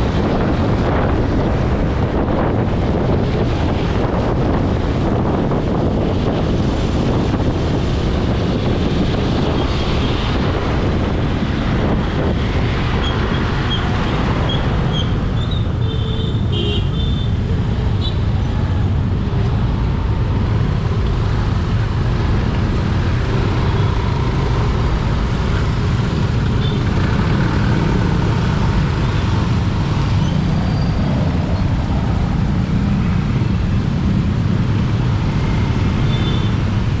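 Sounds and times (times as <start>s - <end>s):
road and traffic noise: 0.0s - 37.0s
wind on microphone: 0.0s - 37.0s.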